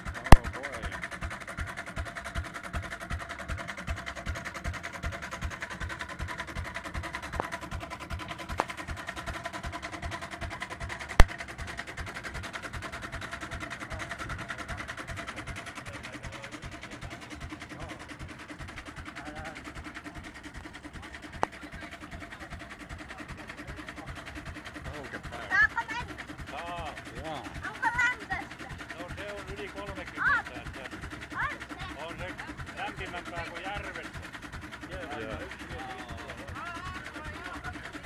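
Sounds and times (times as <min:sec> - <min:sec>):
stationary engine running: 0:00.0 - 0:38.0.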